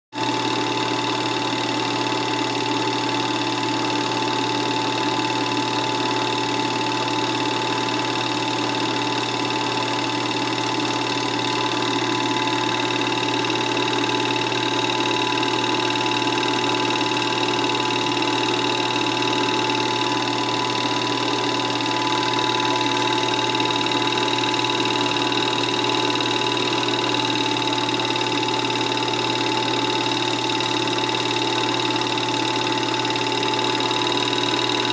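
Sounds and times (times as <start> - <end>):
film projector whirring: 0.2 - 34.9
held tones: 2.2 - 34.9.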